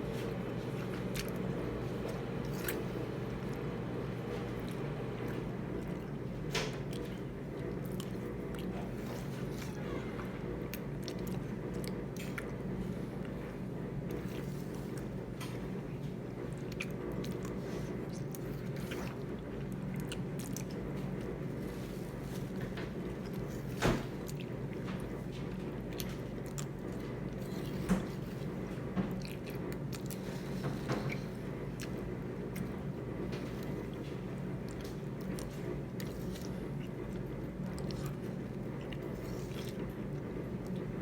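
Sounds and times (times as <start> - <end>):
low background hum: 0.0 - 41.0
people chewing food: 0.0 - 41.0.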